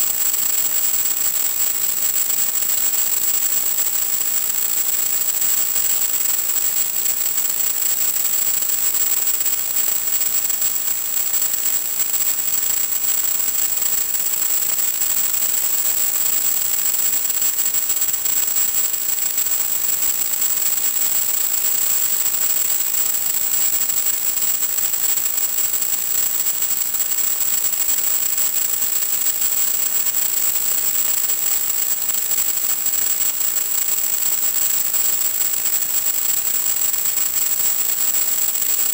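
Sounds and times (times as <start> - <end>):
thin high-pitched whine: 0.0 - 38.9.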